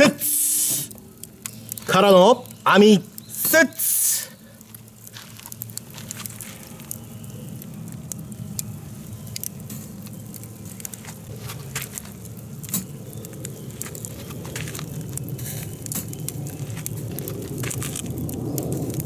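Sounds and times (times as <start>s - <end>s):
embers crackling: 0.0s - 19.0s
low steady hum: 0.0s - 19.0s.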